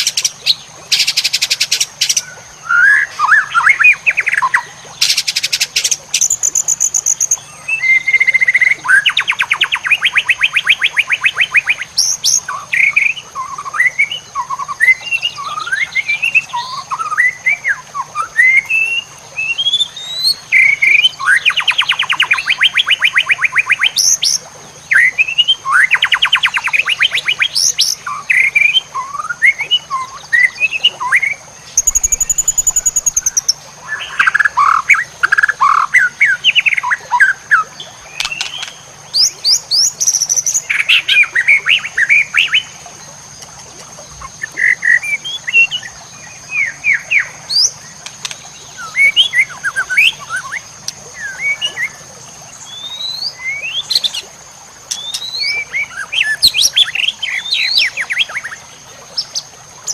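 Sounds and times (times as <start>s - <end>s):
bird singing whistles and trills: 0.0s - 42.7s, 48.8s - 52.0s, 52.6s - 54.2s, 54.9s - 58.6s.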